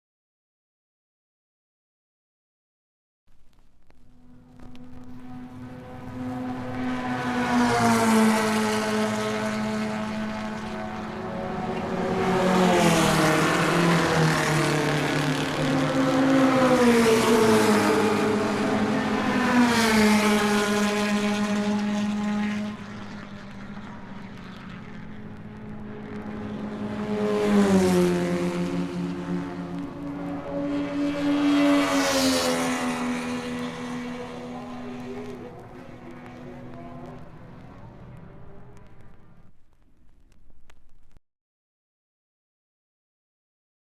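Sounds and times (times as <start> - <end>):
steady engine drone: 3.9 - 39.6
engines passing by: 4.0 - 39.5.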